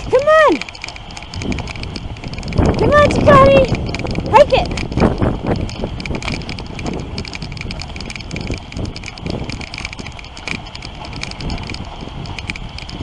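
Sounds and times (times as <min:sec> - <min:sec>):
sled rattling clicks: 0:00.0 - 0:13.0
sled runners scraping on snow: 0:00.0 - 0:13.0
wind on microphone: 0:00.0 - 0:13.0.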